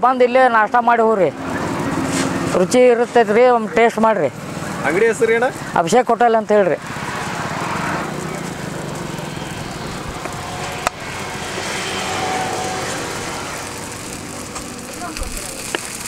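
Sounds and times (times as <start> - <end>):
road traffic: 0.0 - 16.0
vehicle passing by: 0.3 - 16.0.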